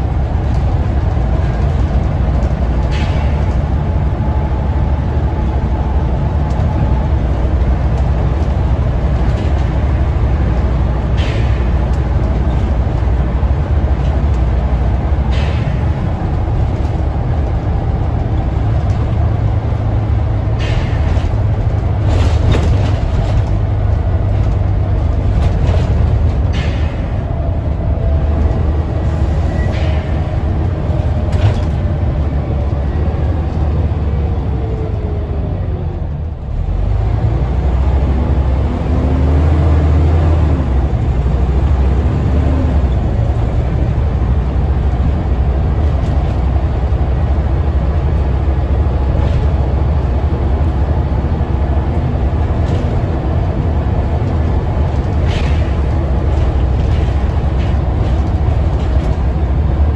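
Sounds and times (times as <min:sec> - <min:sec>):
bus diesel engine rumble: 0:00.0 - 0:59.9.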